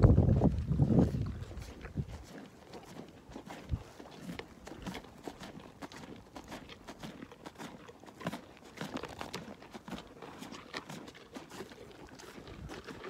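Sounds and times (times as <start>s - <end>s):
alpaca chewing: 0.0s - 13.0s.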